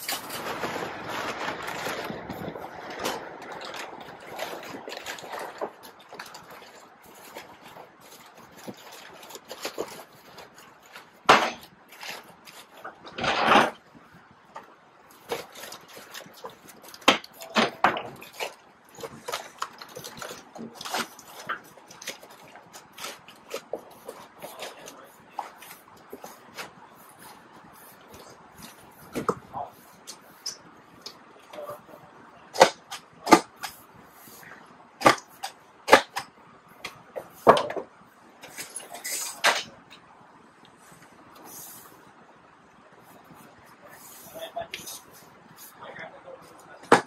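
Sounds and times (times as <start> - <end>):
packing paper rustling and crackling: 0.0 - 39.8.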